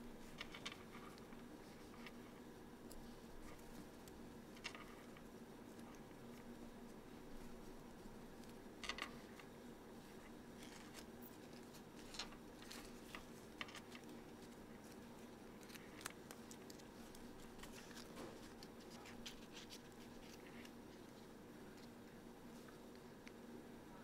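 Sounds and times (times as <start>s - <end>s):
low room hum: 0.0s - 24.0s
paper crinkling while folded: 2.9s - 23.0s.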